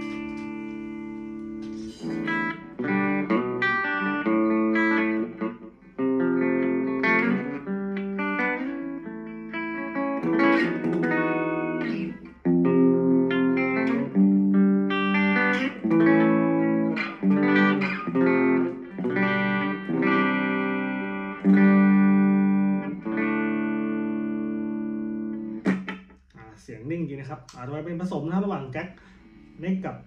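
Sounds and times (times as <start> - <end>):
clean electric guitar notes: 0.0 - 26.2.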